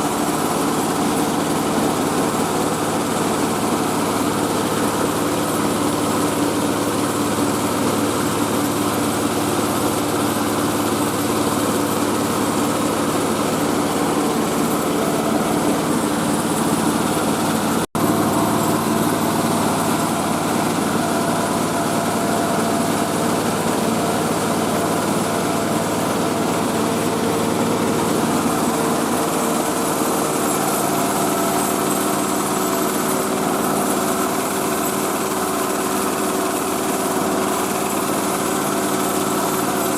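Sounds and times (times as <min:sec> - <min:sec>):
rice milling machine running: 0:00.0 - 0:39.9.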